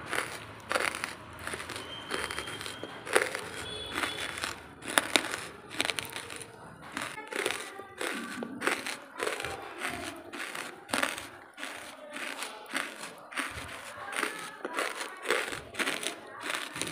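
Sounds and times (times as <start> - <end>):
chewing brittle charcoal: 0.0 - 16.9.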